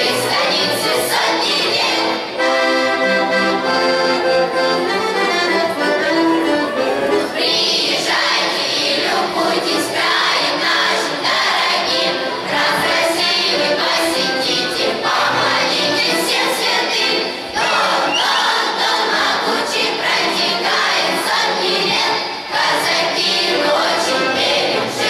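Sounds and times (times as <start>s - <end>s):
children's choir singing: 0.0s - 25.0s
instrumental accompaniment: 0.0s - 25.0s.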